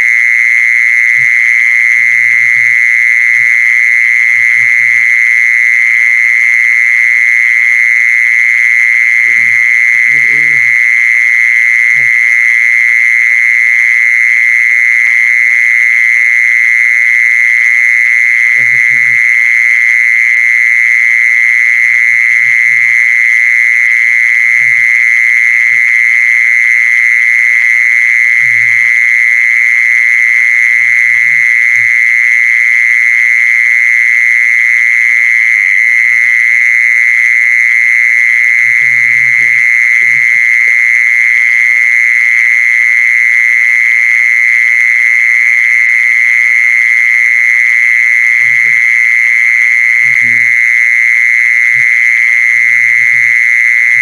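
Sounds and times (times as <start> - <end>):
high-pitched recorded animal trill: 0.0 - 54.0.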